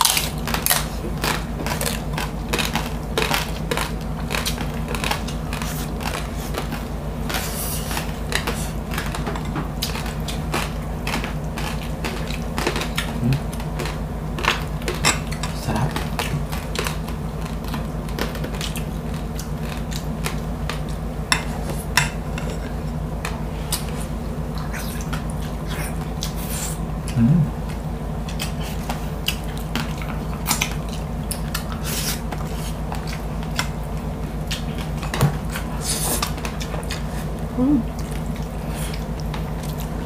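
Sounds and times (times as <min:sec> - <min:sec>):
chewing and crunching: 0:00.0 - 0:40.0
low hum: 0:00.0 - 0:40.0.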